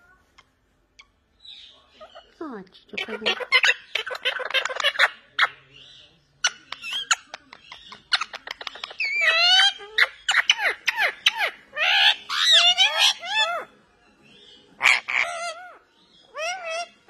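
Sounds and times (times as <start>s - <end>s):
parakeets squawking: 0.4s - 13.8s, 14.5s - 17.0s.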